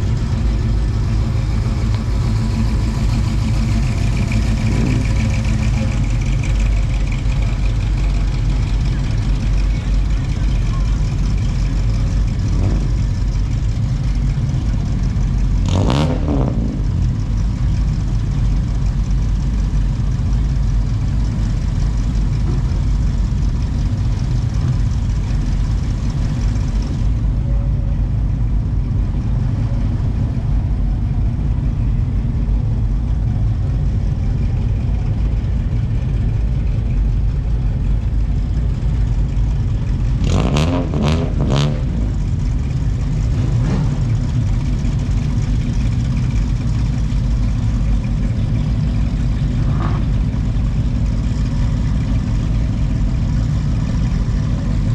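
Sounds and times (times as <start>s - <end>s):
car engines rumbling: 0.0s - 54.9s.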